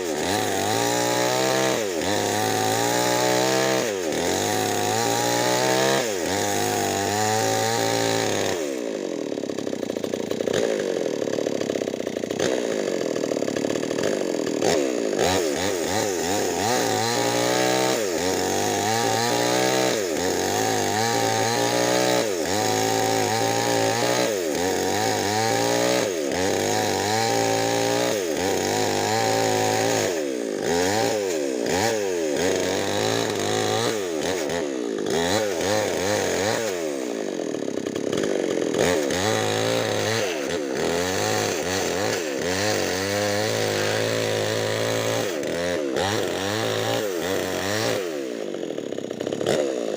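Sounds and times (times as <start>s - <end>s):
chainsaw cutting timber: 0.0s - 49.9s.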